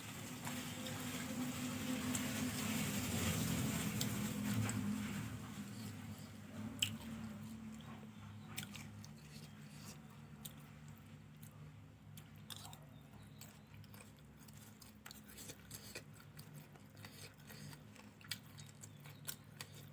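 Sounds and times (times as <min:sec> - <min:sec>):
person chewing rice: 0:02.1 - 0:19.9.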